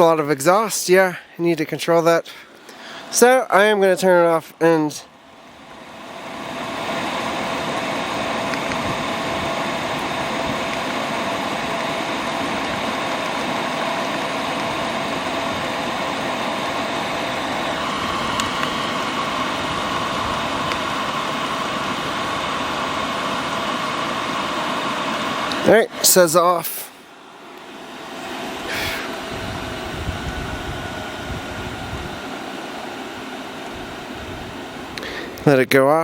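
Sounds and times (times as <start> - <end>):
diesel air heater whirring: 0.0 - 36.0.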